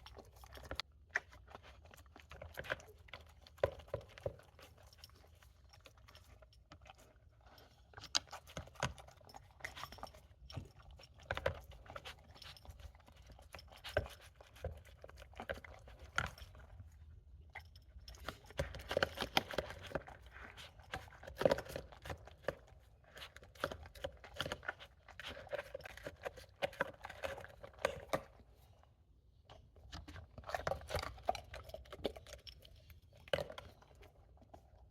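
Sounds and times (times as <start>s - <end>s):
dog crunching food: 0.0s - 16.9s, 17.5s - 28.6s, 29.8s - 34.8s.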